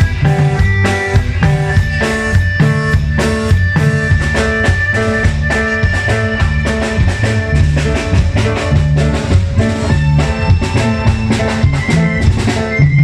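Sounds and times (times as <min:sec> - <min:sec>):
band playing cumbia: 0:00.0 - 0:13.0
drum kit steady beat: 0:00.0 - 0:13.0.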